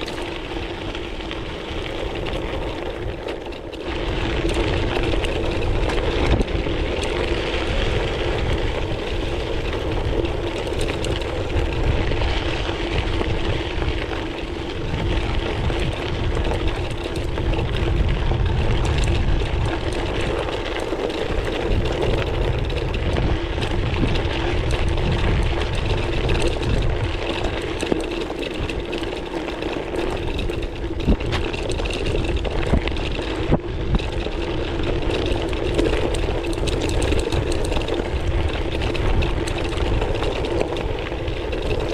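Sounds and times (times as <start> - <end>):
bike tyres rolling over gravel: 0.0 - 41.9
stones ticking and rattling: 0.0 - 41.9
wind buffeting microphone: 0.0 - 41.9.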